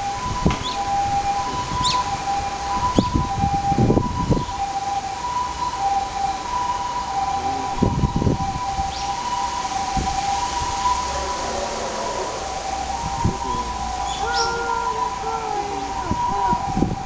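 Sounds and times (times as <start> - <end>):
two-tone emergency siren: 0.0 - 17.0.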